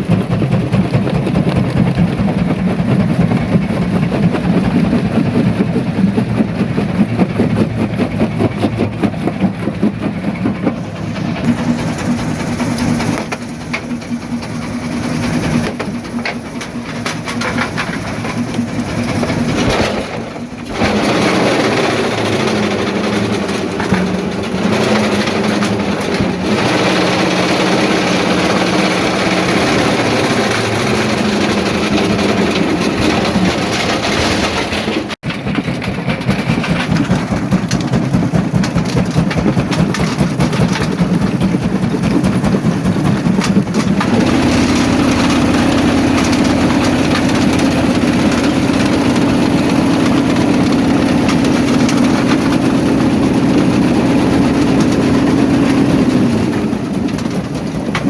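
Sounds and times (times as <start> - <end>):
jaw crusher machinery drone: 0.0 - 58.0.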